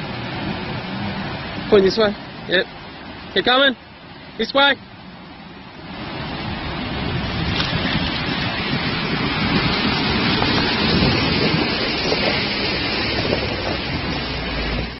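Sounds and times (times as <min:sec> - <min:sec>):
water rushing and splashing: 0:00.0 - 0:14.9.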